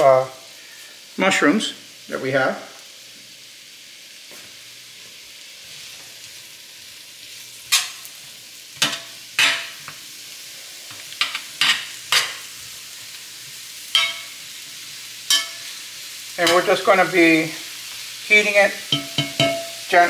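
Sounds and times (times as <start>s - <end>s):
mushrooms sizzling in oil: 0.0s - 20.0s.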